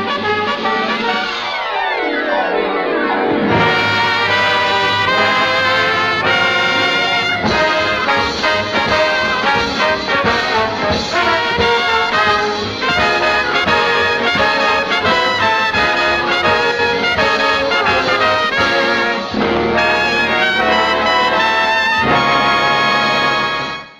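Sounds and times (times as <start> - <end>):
big band swing music: 0.0 - 1.6, 3.4 - 23.9.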